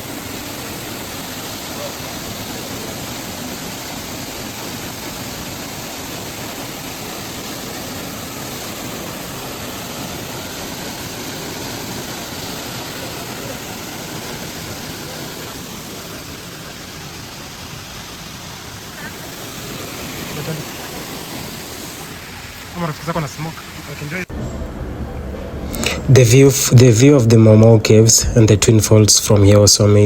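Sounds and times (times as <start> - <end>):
waterfall rushing: 0.0 - 24.4.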